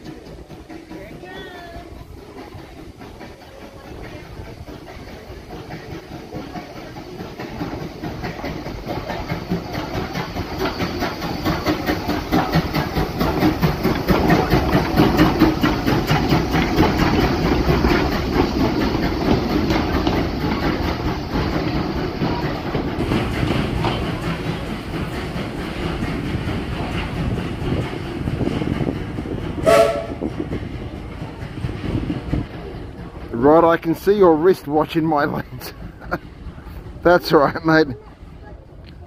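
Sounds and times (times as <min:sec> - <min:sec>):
steam train running on rails: 0:00.0 - 0:39.0
wheels clattering over track: 0:00.0 - 0:39.0.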